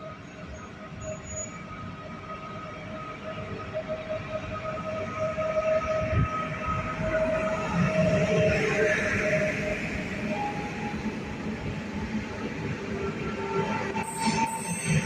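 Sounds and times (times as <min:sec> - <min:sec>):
train rumbling: 0:00.0 - 0:15.0
train whine: 0:00.0 - 0:15.0.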